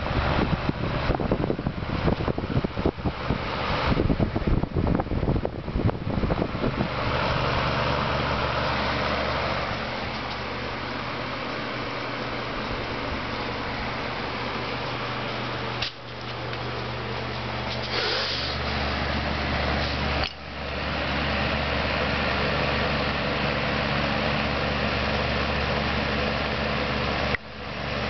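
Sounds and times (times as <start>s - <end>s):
compressor electric hum: 0.0s - 28.0s
fan air rushing: 0.0s - 28.0s.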